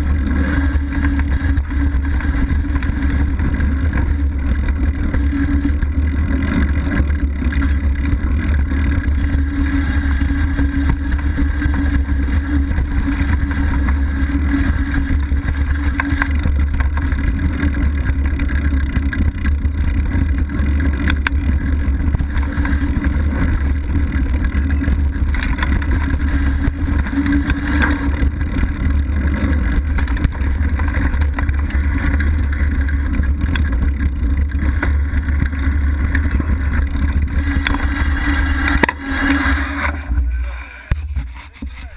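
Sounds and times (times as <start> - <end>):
bike knocking and rattling: 0.0 - 41.9
tyres rolling on dirt trail: 0.0 - 41.9.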